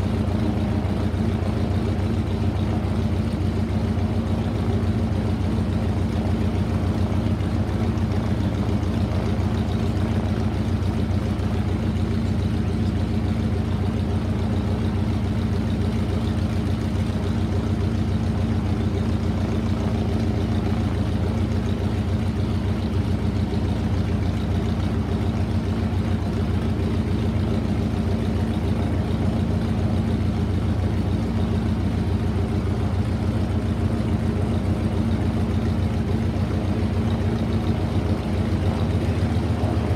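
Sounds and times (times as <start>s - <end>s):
radial engine idling: 0.0s - 39.9s.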